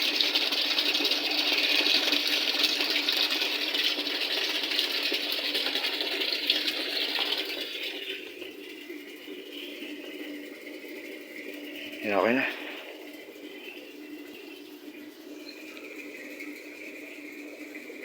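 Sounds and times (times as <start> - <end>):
water rushing in washing machine: 0.0 - 18.0.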